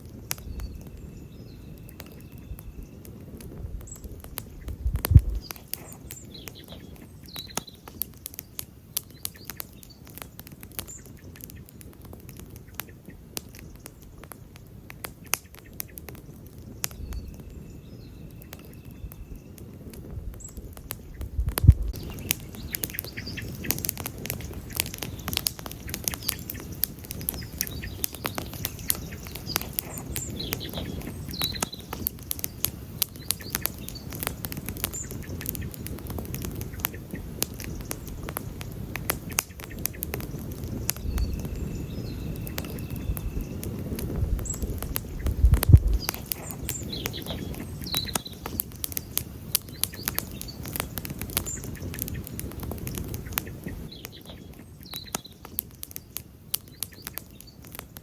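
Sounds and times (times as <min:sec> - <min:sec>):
campfire crackling and popping: 0:00.0 - 0:58.0
fire rushing: 0:00.0 - 0:58.0
faint bird chirps: 0:00.2 - 0:11.8, 0:15.7 - 0:52.3, 0:53.0 - 0:58.0.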